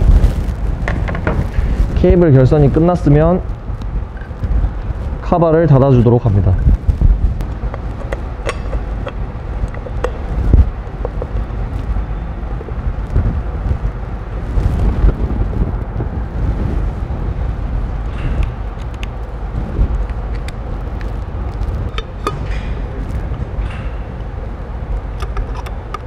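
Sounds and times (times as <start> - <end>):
workshop background rumble: 0.0 - 26.0.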